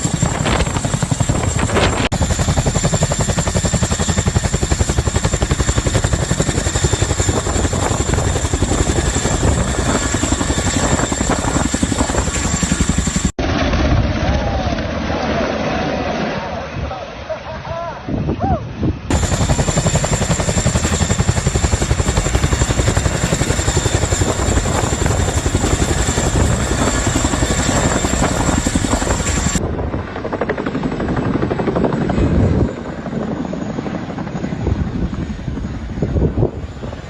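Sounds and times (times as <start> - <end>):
helicopter rotor chopping: 0.0 - 17.2, 19.0 - 37.0
high turbine whine: 0.0 - 37.0.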